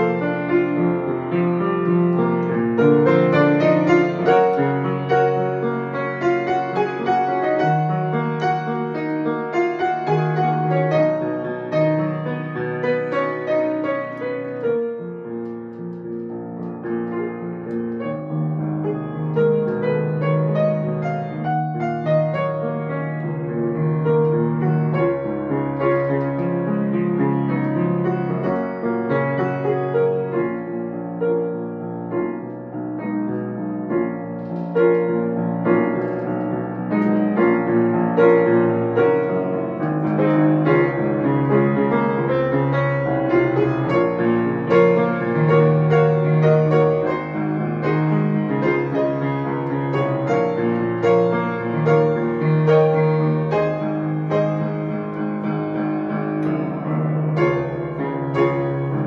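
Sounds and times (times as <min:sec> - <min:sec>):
upright piano melody: 0:00.0 - 0:59.0.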